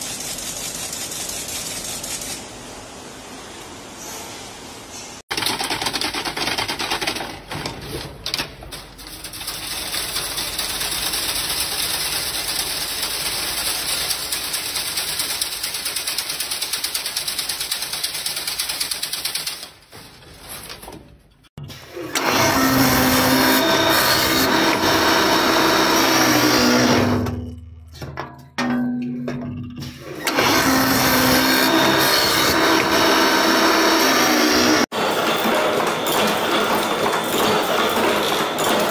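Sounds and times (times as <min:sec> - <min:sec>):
weaving machine metallic clatter: 0:05.3 - 0:38.9.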